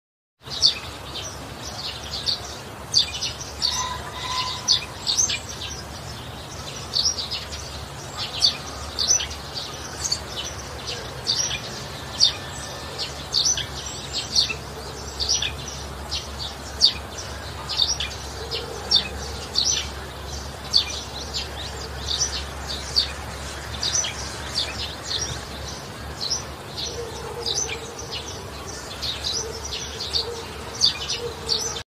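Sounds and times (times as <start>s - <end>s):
songbirds chirping: 0.4s - 31.8s.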